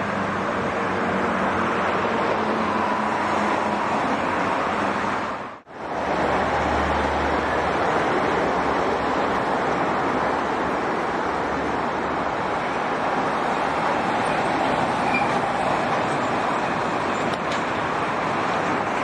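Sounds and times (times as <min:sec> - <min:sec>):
highway traffic passing: 0:00.0 - 0:19.0.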